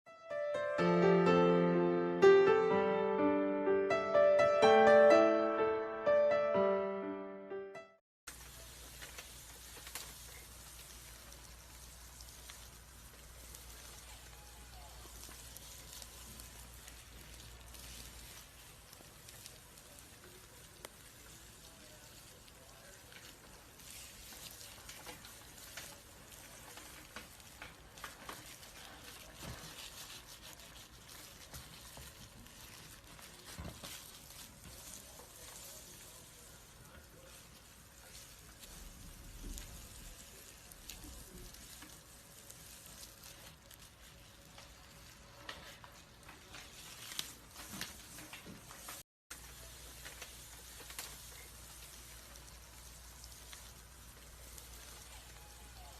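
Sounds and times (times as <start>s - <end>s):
dry crackling and rustling: 8.3s - 55.9s.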